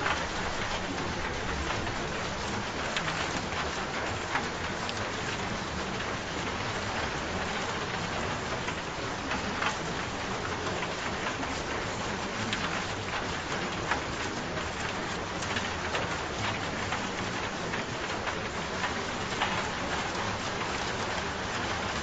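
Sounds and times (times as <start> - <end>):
raindrops pattering: 0.0 - 22.0
steady rain falling: 0.0 - 22.0.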